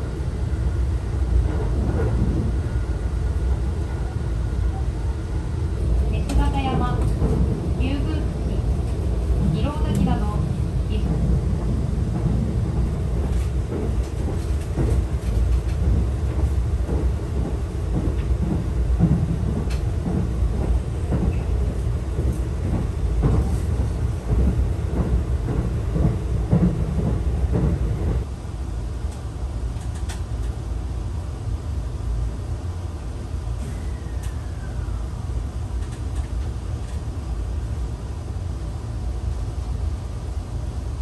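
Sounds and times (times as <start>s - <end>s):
stationary train hum: 0.0s - 41.0s
train rumble inside passenger car: 0.0s - 41.0s.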